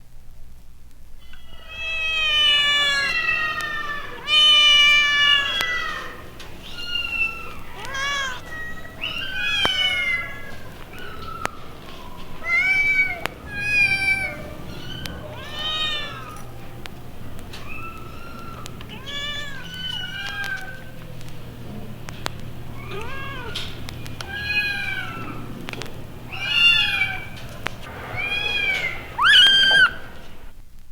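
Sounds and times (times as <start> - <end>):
kittens meowing: 1.2 - 30.5
low steady hum: 3.8 - 30.9.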